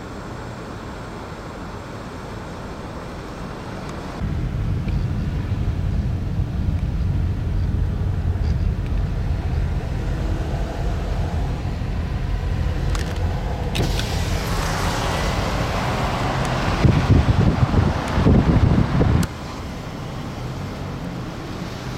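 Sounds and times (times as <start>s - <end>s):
vehicle engine and road rumble: 0.0s - 21.9s.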